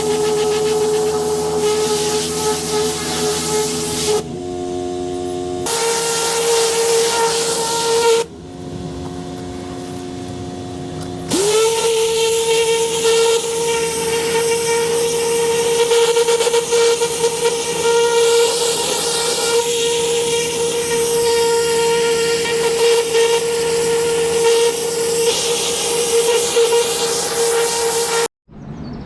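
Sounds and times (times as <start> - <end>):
cleaning machine motor whining: 0.0 - 28.3.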